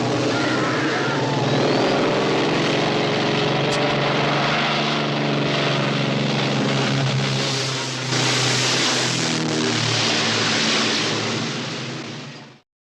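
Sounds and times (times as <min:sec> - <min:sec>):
propeller airplane engine droning: 0:00.0 - 0:12.6.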